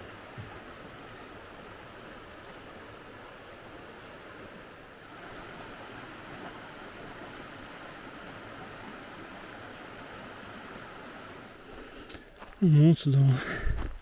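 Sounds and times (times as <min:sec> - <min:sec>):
mountain torrent rushing: 0:00.0 - 0:14.0.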